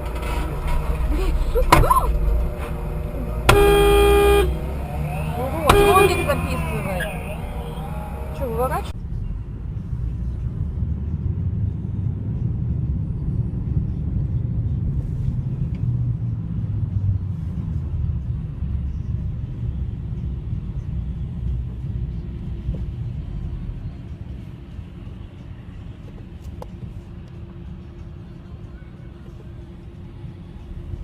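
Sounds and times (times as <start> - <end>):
vehicle engine and road rumble: 0.0 - 31.0.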